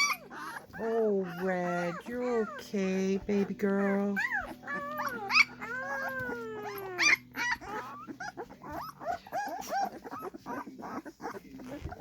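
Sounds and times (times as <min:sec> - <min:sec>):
puppies squeaking and yelping: 0:00.0 - 0:12.0
puppy wailing: 0:00.0 - 0:12.0.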